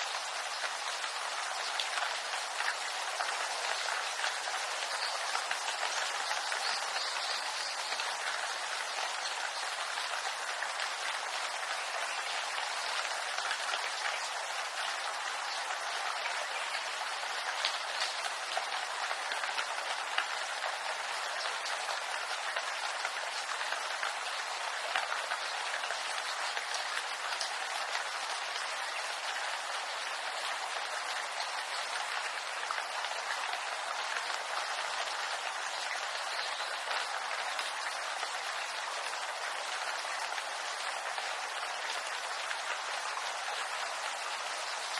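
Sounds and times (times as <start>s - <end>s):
rain on bamboo leaves: 0.0s - 44.9s.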